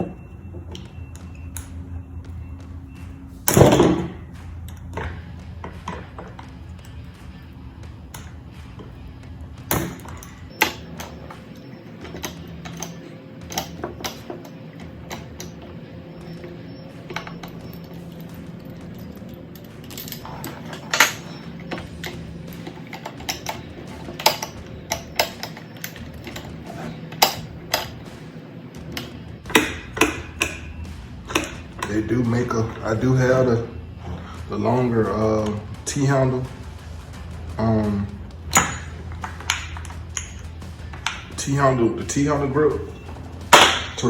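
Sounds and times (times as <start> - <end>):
faint steady hum: 0.0 - 44.0
hand tools clicking on metal: 3.5 - 44.0.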